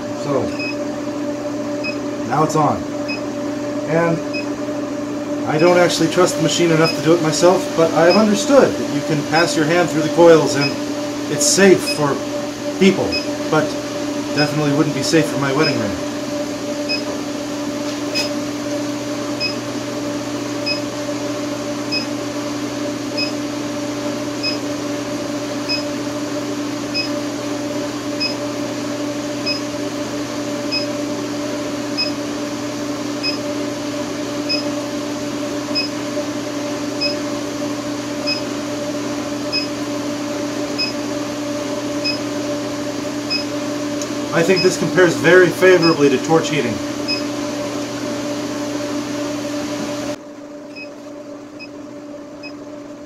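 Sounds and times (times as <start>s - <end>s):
induction forge humming: 0.0s - 53.0s.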